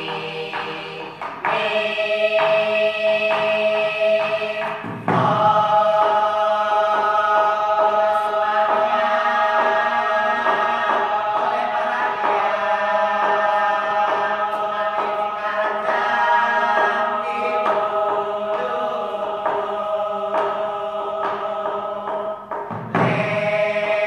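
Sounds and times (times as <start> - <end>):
choir singing chords: 0.0 - 24.0.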